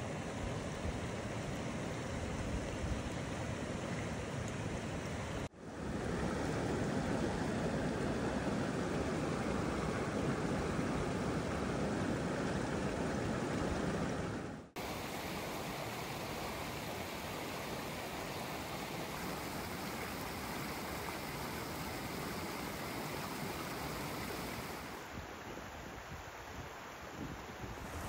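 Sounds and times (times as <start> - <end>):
stream water rushing over rocks: 0.0 - 28.0.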